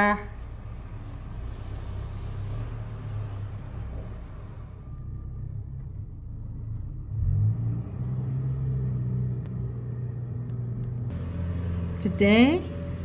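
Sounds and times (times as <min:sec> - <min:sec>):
engine rumbling and revving: 0:00.0 - 0:13.0.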